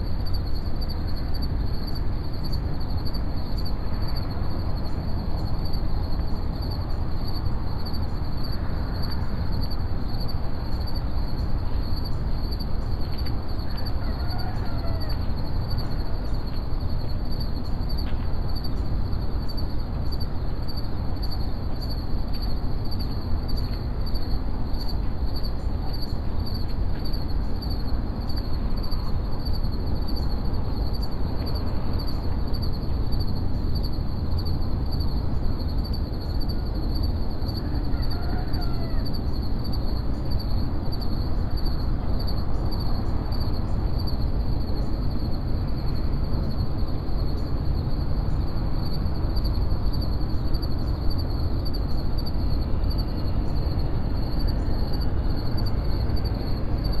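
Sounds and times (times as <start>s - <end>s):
constant low rumble: 0.0s - 57.0s
crickets trilling: 0.0s - 57.0s.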